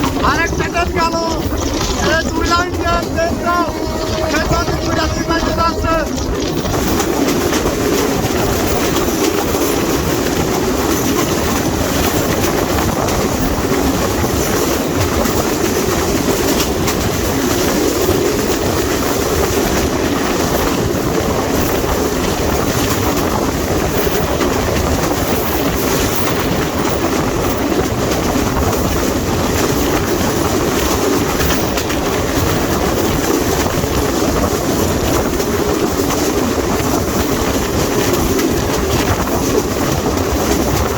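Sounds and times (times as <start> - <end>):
train wheels on track rushing: 0.0 - 40.9.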